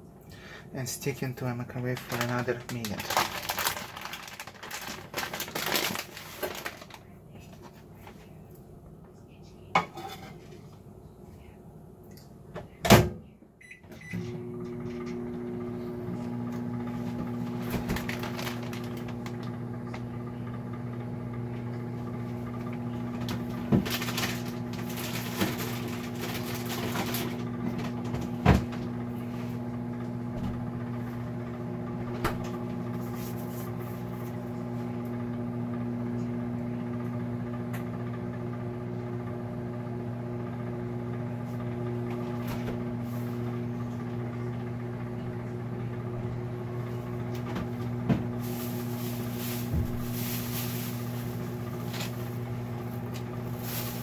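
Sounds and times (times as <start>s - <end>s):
microwave humming: 0.0s - 11.0s, 11.7s - 54.0s.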